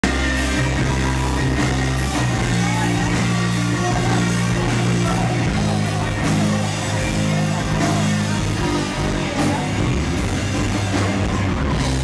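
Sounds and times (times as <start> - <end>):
bass: 0.0 - 12.0
drums with cymbal hits: 0.0 - 12.0
electric guitars: 0.0 - 12.0
keyboard: 0.0 - 12.0.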